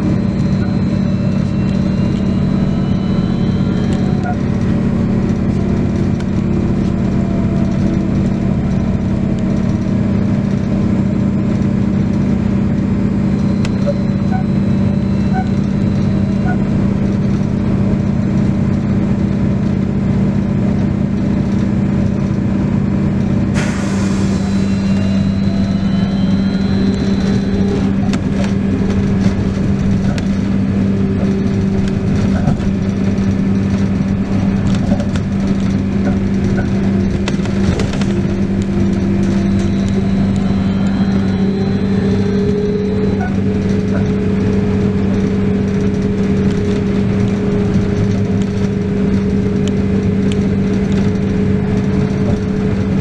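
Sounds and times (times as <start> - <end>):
road and tyre noise: 0.0 - 53.0.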